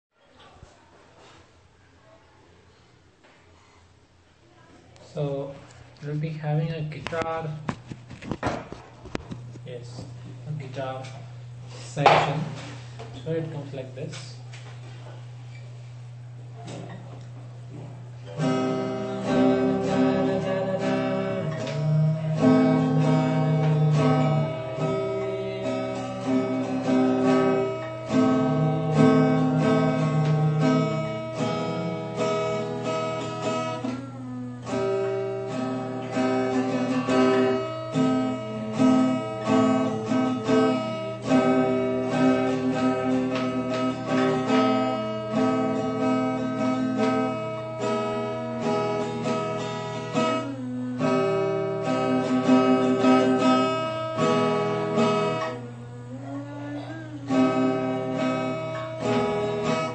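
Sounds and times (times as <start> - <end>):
acoustic guitar playing: 5.0 - 59.9.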